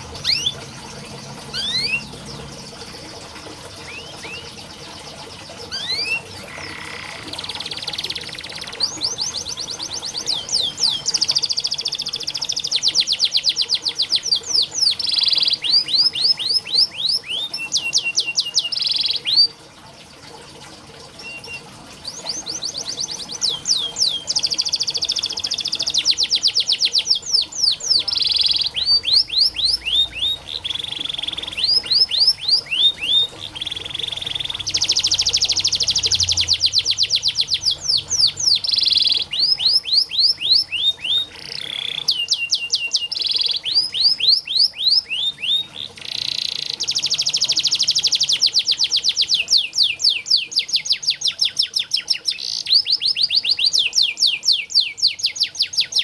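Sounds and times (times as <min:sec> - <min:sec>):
canary singing trills: 0:00.0 - 0:19.6, 0:21.1 - 0:56.0.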